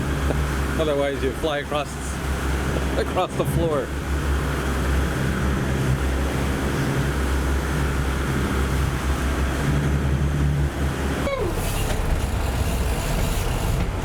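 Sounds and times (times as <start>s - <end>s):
boat engine droning: 0.0s - 14.0s
water noise: 0.0s - 14.0s
wind: 0.0s - 14.0s.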